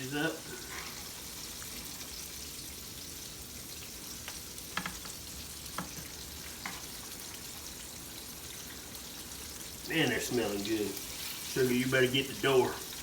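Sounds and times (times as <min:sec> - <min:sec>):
food sizzling in hot grease: 0:00.0 - 0:13.0.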